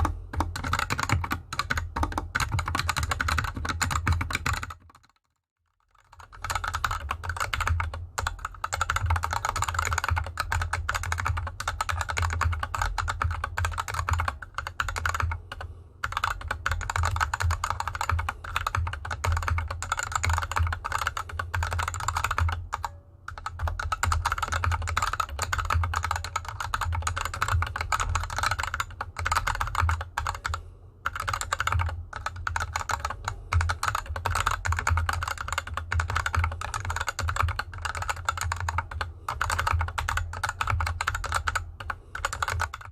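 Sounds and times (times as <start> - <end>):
typing on mechanical keyboard: 0.0 - 42.9.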